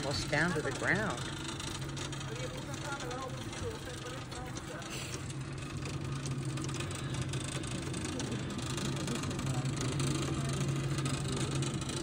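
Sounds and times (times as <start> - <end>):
lift motor humming: 0.0 - 12.0.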